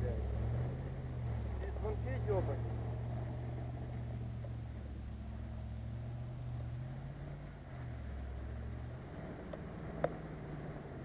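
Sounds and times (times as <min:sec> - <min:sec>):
off-road engine droning: 0:00.0 - 0:11.0.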